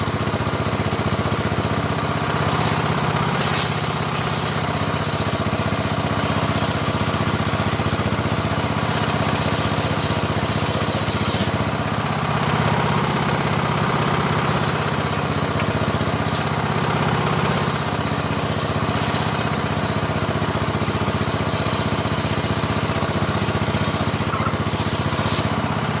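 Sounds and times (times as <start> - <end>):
sawmill engine running: 0.0 - 26.0.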